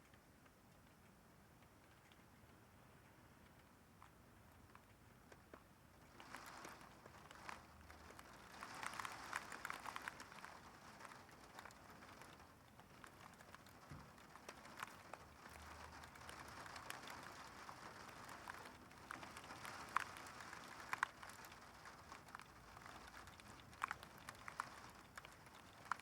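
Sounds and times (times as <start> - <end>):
faint steady rain hiss: 0.0 - 26.0.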